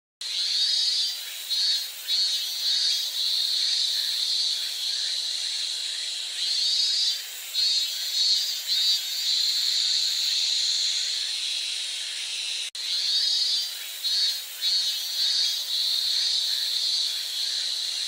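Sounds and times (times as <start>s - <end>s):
cicada buzzing: 0.2s - 18.0s.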